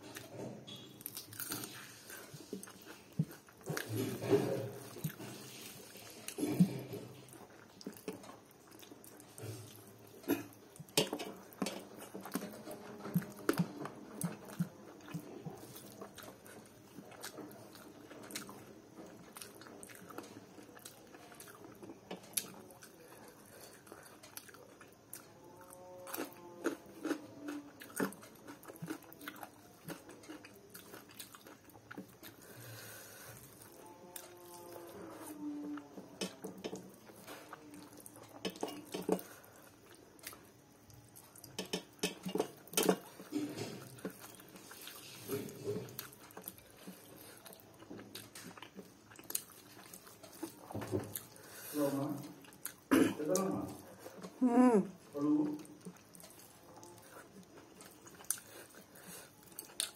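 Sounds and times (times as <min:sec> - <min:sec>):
close chewing and mouth sounds: 0:00.0 - 0:59.9.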